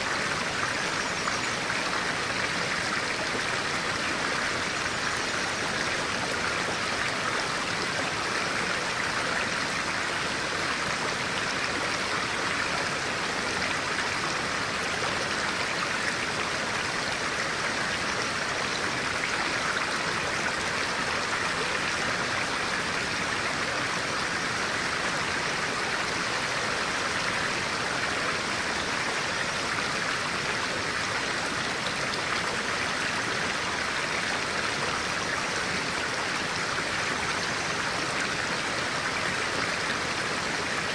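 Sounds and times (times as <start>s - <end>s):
stream of water flowing: 0.0s - 40.9s.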